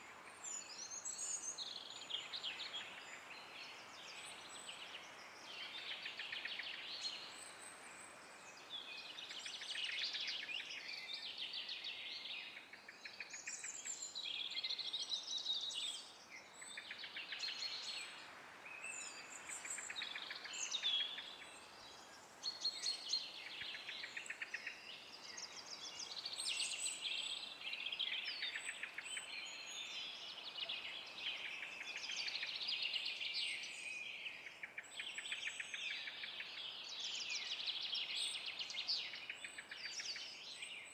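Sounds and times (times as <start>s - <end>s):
faint background hiss: 0.0s - 40.9s
songbirds singing: 0.0s - 40.9s.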